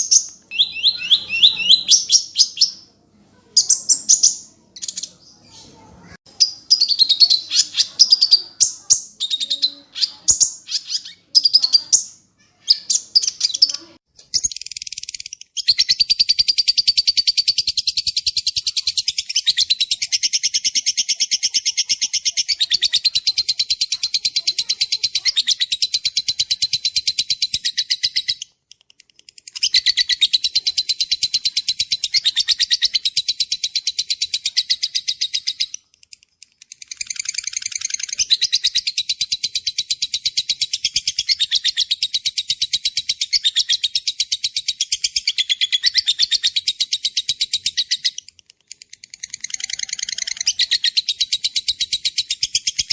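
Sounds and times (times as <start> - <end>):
songbird chirping and trilling: 0.0 - 52.9.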